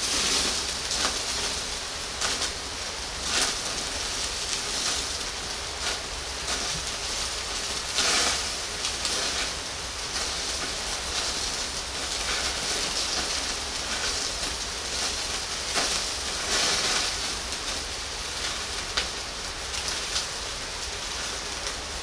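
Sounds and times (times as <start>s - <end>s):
meat sizzling on a grill: 0.0s - 22.0s.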